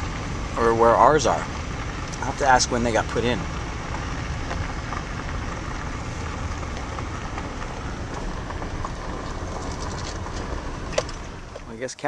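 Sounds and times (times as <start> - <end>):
car interior road rumble: 0.0 - 12.0
tyres crackling on gravel: 0.0 - 12.0.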